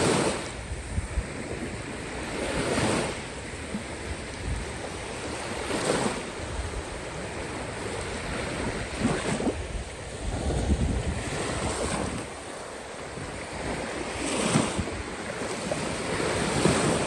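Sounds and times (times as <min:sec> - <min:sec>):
waves breaking on shore: 0:00.0 - 0:17.0
wind rumble on microphone: 0:00.0 - 0:17.0.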